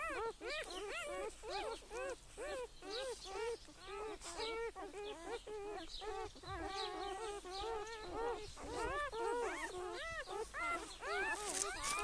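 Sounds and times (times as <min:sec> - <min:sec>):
pet animal whining: 0:00.0 - 0:12.0.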